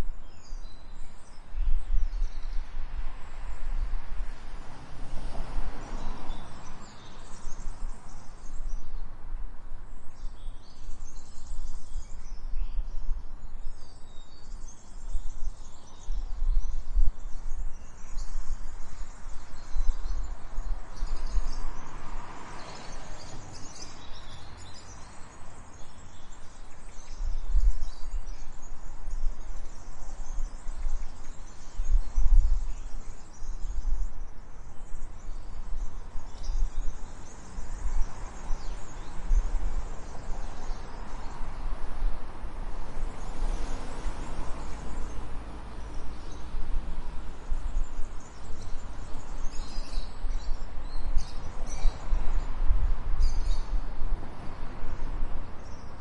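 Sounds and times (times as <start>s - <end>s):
small birds chirping: 5.8s - 56.0s.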